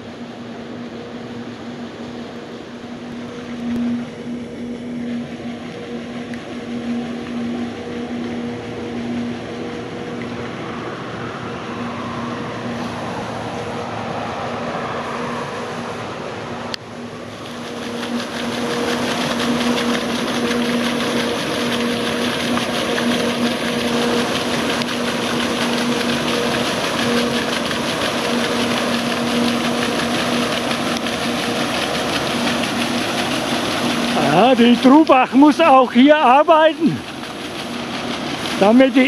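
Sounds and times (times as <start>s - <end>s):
faint steady hum: 0.0s - 39.0s
water flowing: 0.0s - 39.0s
water splashing off water wheel: 0.0s - 39.0s.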